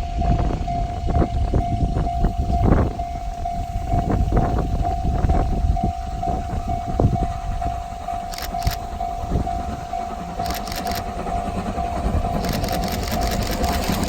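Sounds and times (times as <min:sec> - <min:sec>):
level crossing alarm ringing: 0:00.0 - 0:14.0
train wheels knocking on rails: 0:00.0 - 0:14.0.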